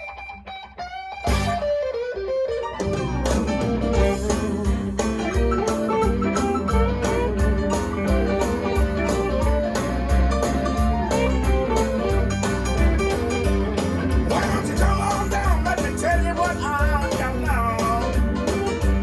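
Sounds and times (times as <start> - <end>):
blues-rock band playing: 0.0 - 19.0
falling guitar line: 0.0 - 19.0.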